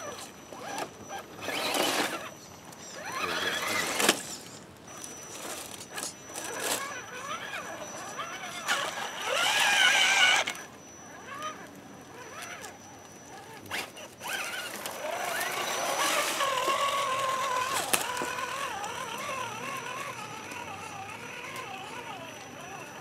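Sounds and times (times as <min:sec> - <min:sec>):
electric motor and gear whine: 0:00.0 - 0:23.0.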